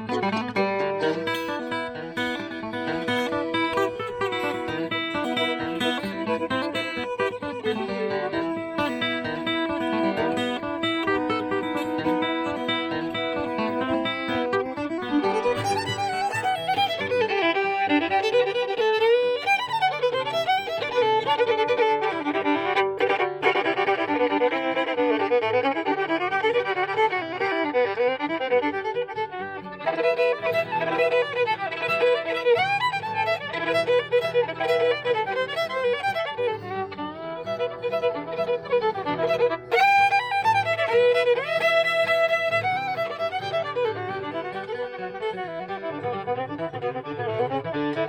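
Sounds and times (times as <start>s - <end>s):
fiddle playing bluegrass tune: 0.0s - 48.0s.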